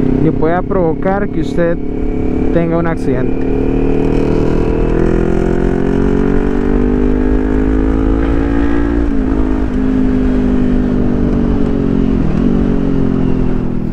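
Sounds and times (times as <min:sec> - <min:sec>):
motorcycle engine cruising: 0:00.0 - 0:13.9.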